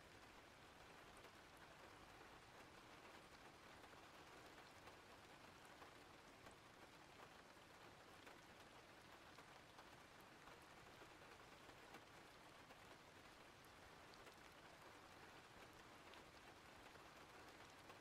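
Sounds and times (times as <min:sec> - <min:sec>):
raindrop ticks: 0:00.2 - 0:18.0.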